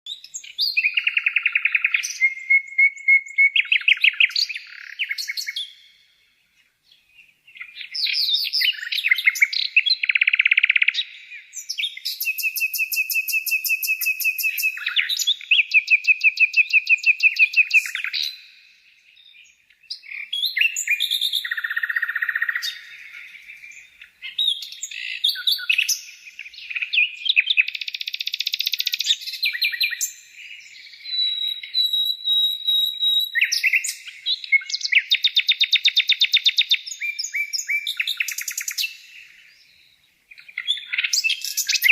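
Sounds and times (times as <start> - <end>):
songbird trilling and chirping: 0.1 - 41.9.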